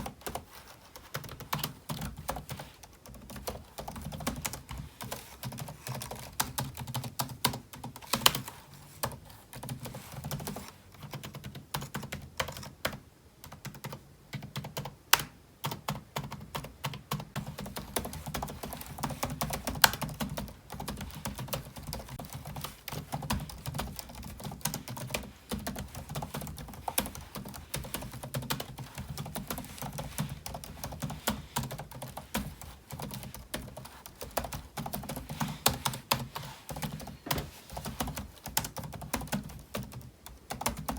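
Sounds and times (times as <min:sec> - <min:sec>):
typing on computer keyboard: 0:00.0 - 0:40.9.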